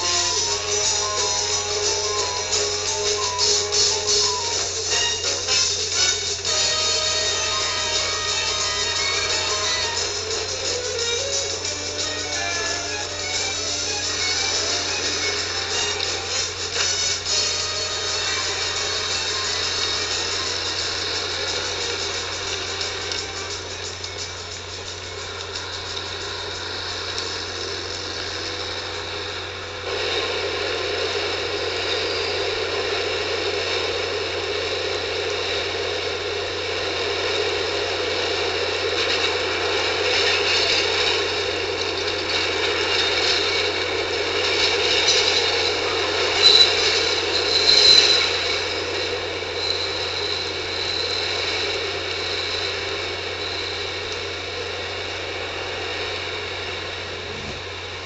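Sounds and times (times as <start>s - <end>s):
train rattling and rumbling: 0.0s - 58.0s.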